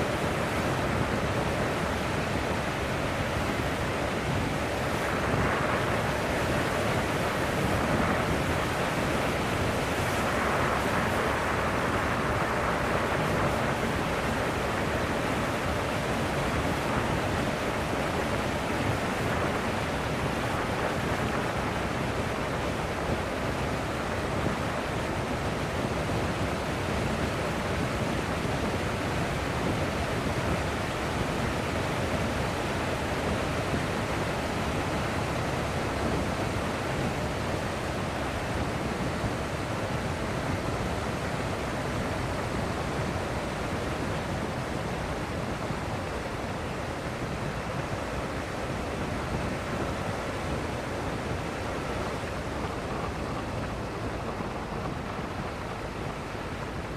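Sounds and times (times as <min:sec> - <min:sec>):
wind rushing on microphone: 0:00.0 - 0:56.9.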